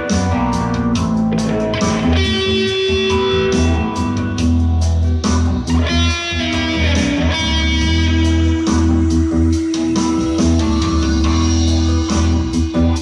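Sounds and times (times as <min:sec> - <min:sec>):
deep bass line: 0:00.0 - 0:13.0
electric guitar melody: 0:00.0 - 0:13.0.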